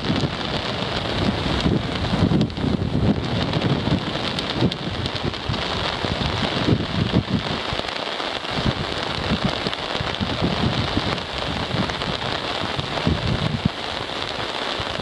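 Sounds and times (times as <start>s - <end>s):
rain falling on sea and sand: 0.0s - 15.0s
wind rumbling on microphone: 0.0s - 15.0s.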